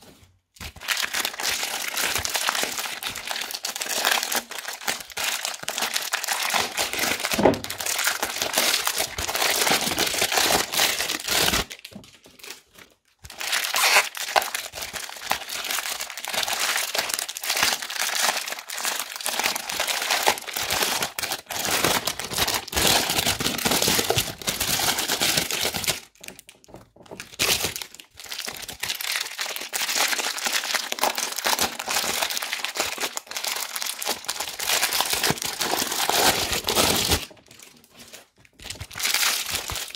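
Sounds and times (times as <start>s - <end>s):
plastic bags crinkling: 0.1s - 39.9s.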